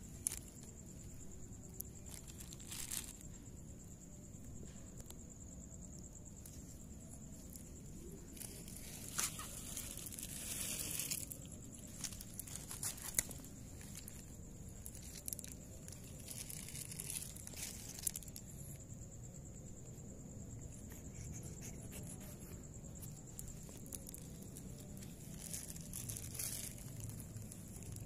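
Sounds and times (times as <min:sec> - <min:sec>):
faint high-pitched hum: 0:00.0 - 0:28.0.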